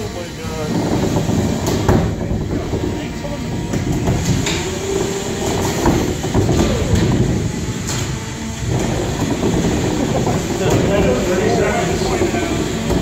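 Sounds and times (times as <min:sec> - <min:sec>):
robot motors whirring: 0:00.0 - 0:13.0.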